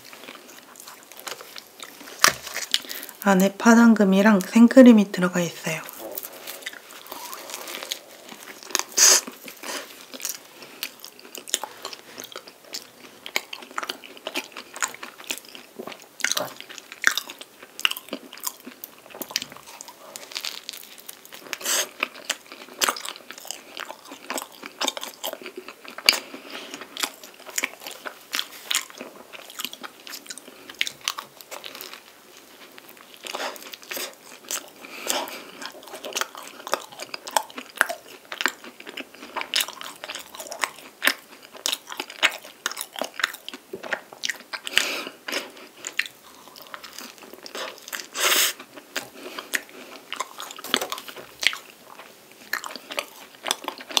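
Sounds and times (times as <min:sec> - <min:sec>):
crunching pastry crust: 0:00.0 - 0:03.2, 0:05.8 - 0:54.0
soft chewing: 0:00.0 - 0:03.3, 0:05.7 - 0:54.0.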